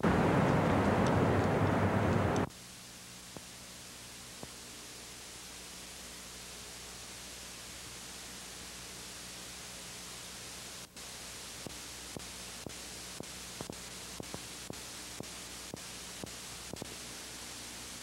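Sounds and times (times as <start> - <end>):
videotape hiss: 0.0 - 18.0.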